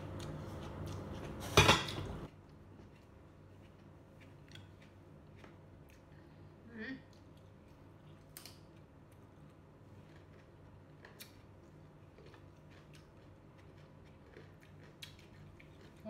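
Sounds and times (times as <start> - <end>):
carrot sticks being chewed: 0.0 - 1.4, 2.4 - 6.4, 7.1 - 16.0
low room hum: 0.0 - 16.0.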